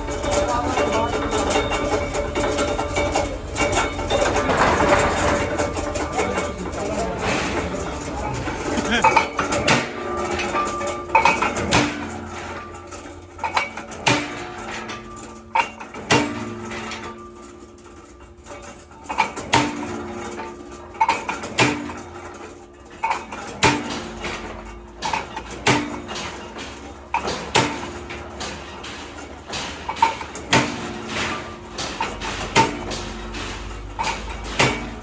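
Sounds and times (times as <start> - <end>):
metal parts clanking: 0.0 - 21.6, 22.2 - 35.0.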